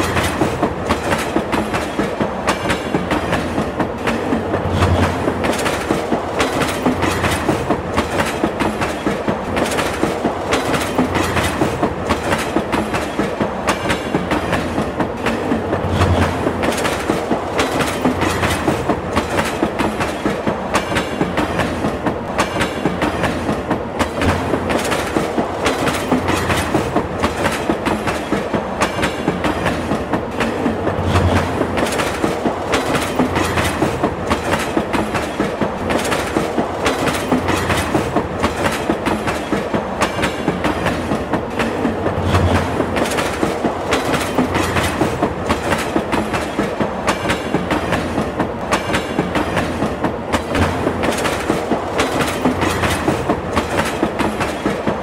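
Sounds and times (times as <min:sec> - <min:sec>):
train rumbling on track: 0:00.0 - 0:55.0
wheels clacking over rail joints: 0:00.0 - 0:55.0.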